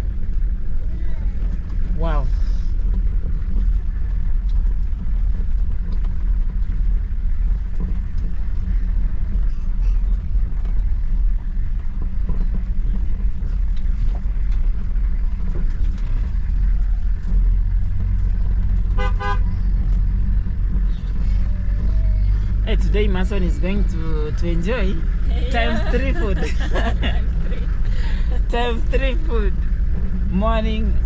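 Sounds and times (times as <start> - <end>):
engine and road rumble in car: 0.0 - 31.0.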